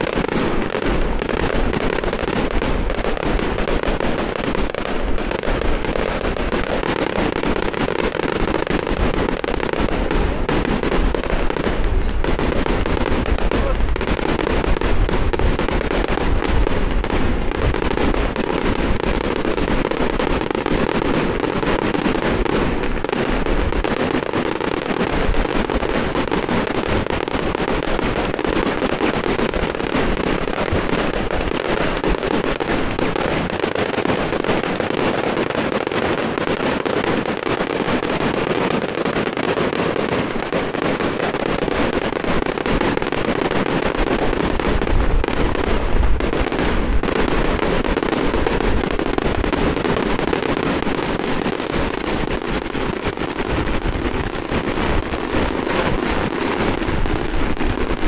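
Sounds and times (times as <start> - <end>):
firecrackers crackling: 0.0 - 58.0.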